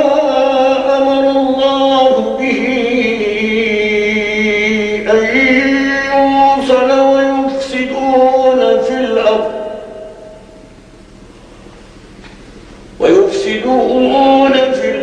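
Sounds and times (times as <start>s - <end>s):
man chanting melodically: 0.0s - 10.5s, 13.0s - 15.0s.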